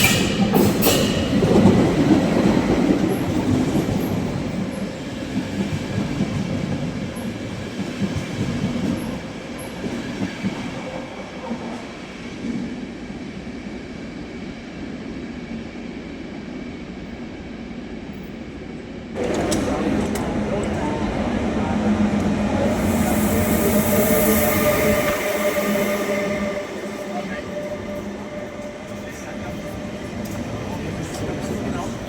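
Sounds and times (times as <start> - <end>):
train rumbling on tracks: 0.0 - 32.0.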